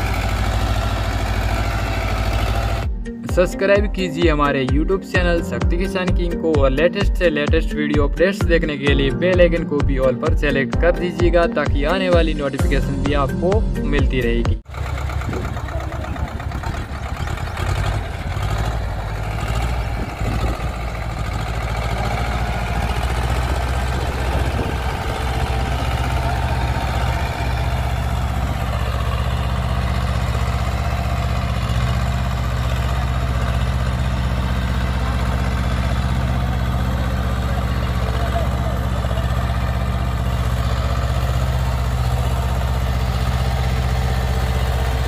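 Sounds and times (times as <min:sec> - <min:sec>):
tractor diesel engine running: 0:00.0 - 0:14.0, 0:14.6 - 0:45.0.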